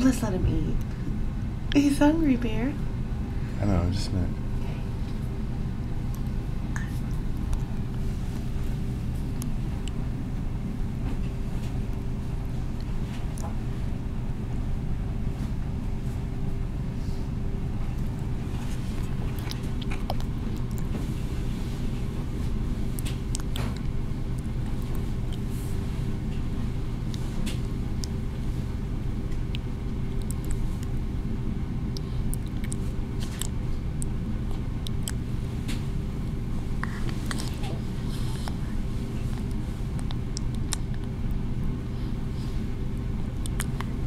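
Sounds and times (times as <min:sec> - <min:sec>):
low rumble with hum: 0:00.0 - 0:44.0.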